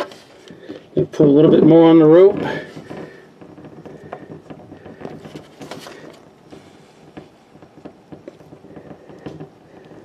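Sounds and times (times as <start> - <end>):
cord rubbing on rubber gasket: 1.2 - 10.0.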